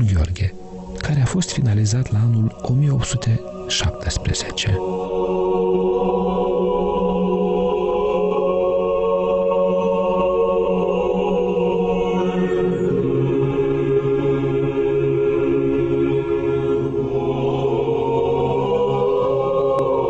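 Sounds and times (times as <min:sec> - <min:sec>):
choir singing a cappella: 0:00.0 - 0:20.0.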